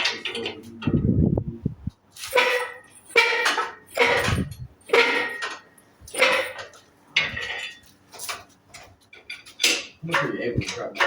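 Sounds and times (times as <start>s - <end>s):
engine hoist metal squeaking: 2.0s - 11.0s.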